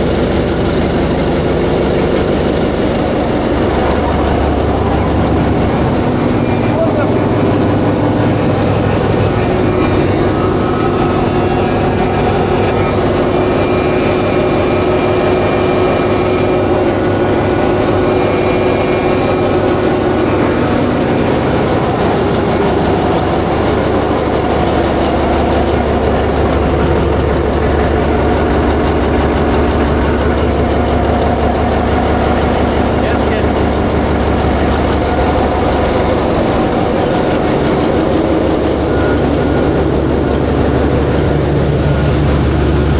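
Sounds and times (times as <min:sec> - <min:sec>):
diesel generator running: 0:00.0 - 0:42.9.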